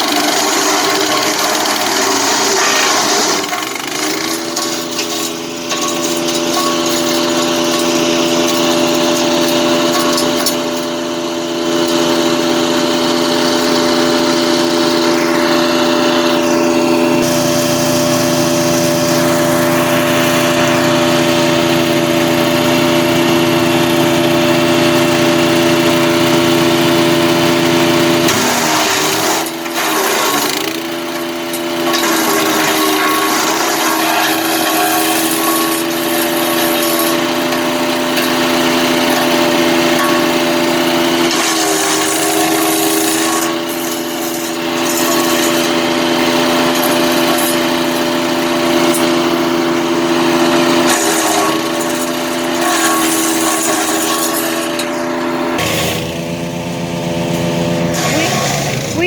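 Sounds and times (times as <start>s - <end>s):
wood chipper engine drone: 0.0s - 59.0s.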